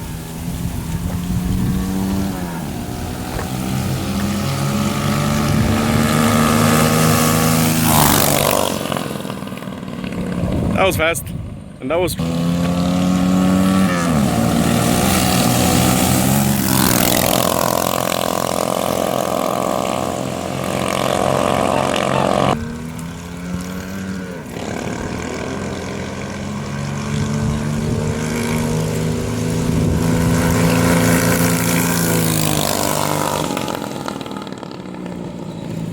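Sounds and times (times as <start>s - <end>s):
go-kart engines running: 0.0s - 35.9s.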